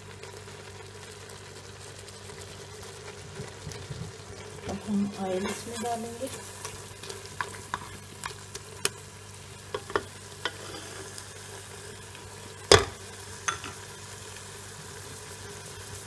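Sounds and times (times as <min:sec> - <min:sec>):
faint frying sizzle: 0:00.0 - 0:16.0.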